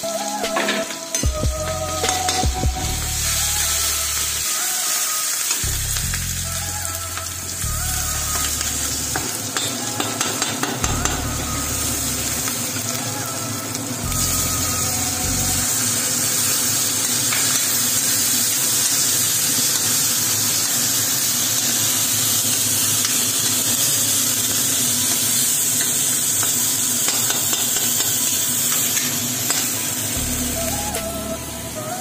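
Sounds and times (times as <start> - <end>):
food frying in hot oil: 0.0 - 31.0.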